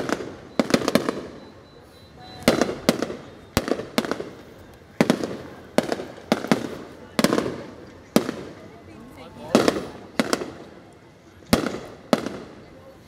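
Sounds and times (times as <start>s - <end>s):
fireworks bangs echoing: 0.0s - 1.7s, 2.3s - 10.8s, 11.4s - 12.7s.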